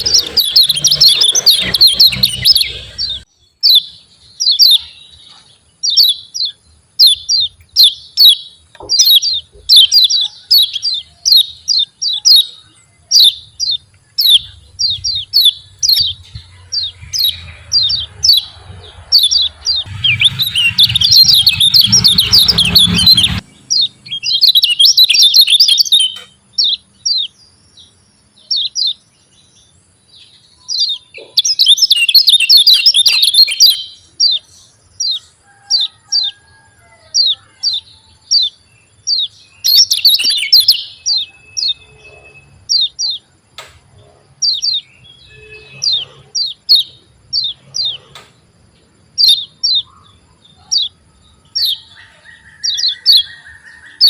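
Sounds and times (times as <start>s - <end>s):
bird high sharp chirps: 0.0s - 27.4s, 30.4s - 36.4s, 37.1s - 43.3s, 44.4s - 48.2s, 49.1s - 54.0s
bird rapid chattering song: 0.0s - 36.3s, 37.2s - 43.4s, 44.2s - 54.0s.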